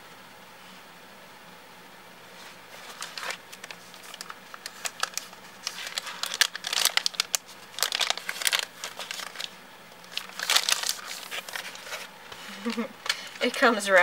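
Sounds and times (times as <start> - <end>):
paper wrapper crinkling: 2.4 - 14.0.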